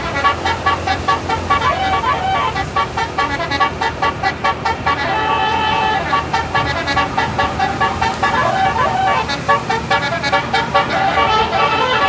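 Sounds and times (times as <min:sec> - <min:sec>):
musical bus horn tune: 0:00.0 - 0:12.0.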